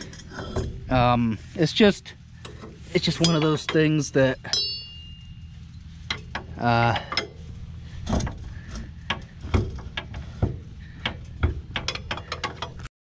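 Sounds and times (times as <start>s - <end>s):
low steady hum: 0.0s - 12.9s
metal hitch hardware clicking: 0.0s - 12.9s.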